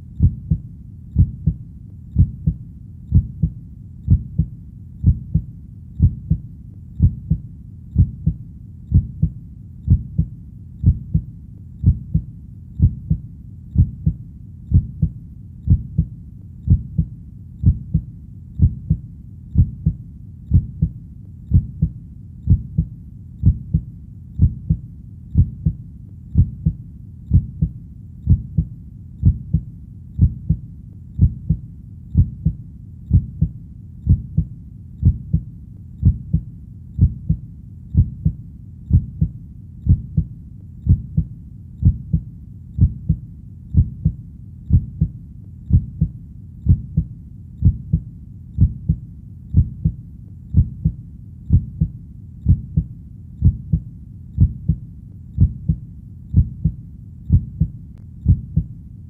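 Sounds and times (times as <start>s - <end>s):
heartbeat thumps: 0.0s - 30.6s, 31.2s - 58.7s
faint low hum: 0.0s - 59.0s.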